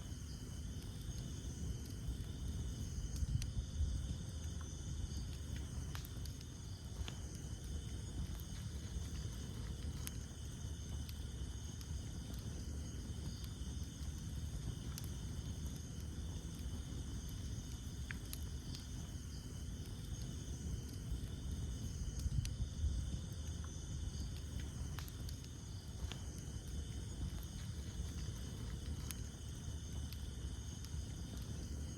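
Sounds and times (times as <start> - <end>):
campfire flame rumble: 0.0 - 31.9
insect chorus: 0.0 - 31.9
wood crackling and popping: 0.0 - 31.9.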